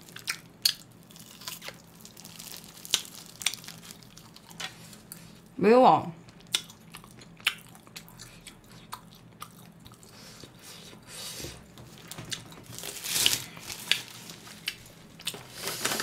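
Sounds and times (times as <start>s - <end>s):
person chewing: 0.0s - 5.4s, 6.3s - 10.9s, 11.6s - 16.0s.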